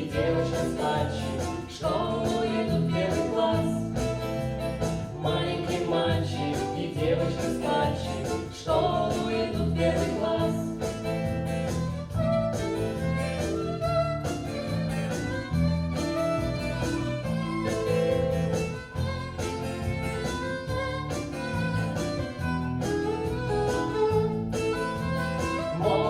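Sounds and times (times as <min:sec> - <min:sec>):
live acoustic band playing: 0:00.0 - 0:26.0.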